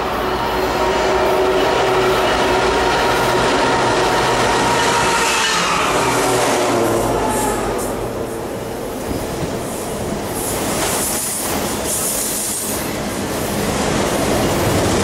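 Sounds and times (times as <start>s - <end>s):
diesel locomotives passing: 0.0s - 15.0s
freight cars rolling on rails: 0.0s - 15.0s.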